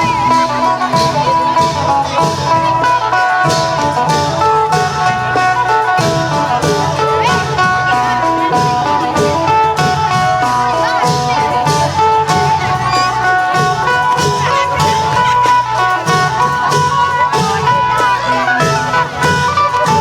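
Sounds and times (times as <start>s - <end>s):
drum band with cymbals: 0.0s - 20.0s
plucked lute melody: 0.0s - 20.0s.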